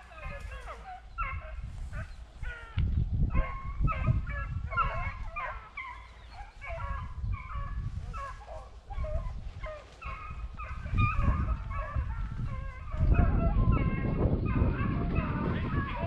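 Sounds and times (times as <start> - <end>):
dogs baying and barking: 0.0 - 16.0
wind rumble on microphone: 0.0 - 16.0.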